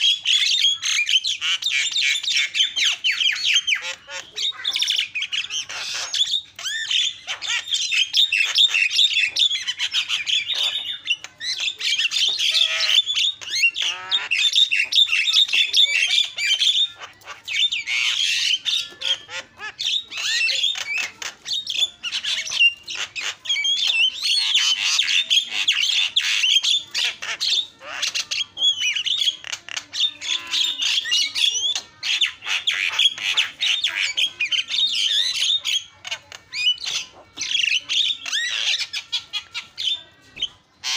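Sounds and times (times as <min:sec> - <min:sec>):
myna chattering and whistling: 0:00.0 - 0:40.9.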